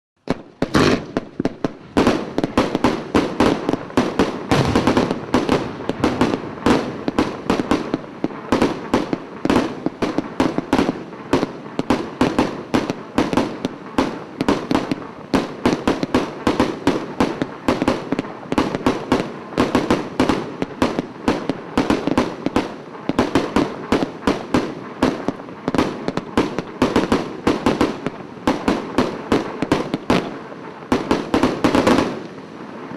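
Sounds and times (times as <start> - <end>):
firework cake bangs: 0.3 - 30.3.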